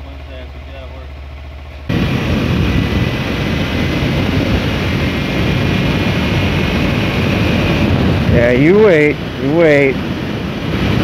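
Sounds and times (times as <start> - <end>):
motorcycle engine running: 0.0 - 11.0
wind rushing over microphone: 1.9 - 11.0.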